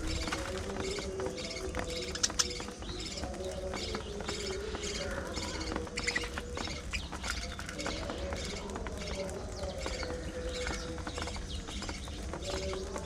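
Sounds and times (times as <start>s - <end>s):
budgerigars chattering and chirping: 0.0s - 13.0s.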